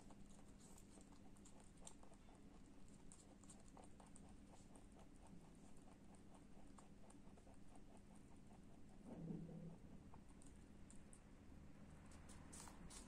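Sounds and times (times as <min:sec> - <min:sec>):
rabbit chewing crunchy food: 0:00.0 - 0:13.0.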